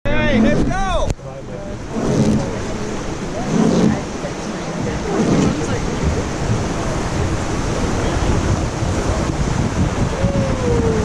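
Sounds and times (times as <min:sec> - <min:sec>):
river water rushing: 0:00.1 - 0:11.0
wind buffeting microphone: 0:00.1 - 0:11.0.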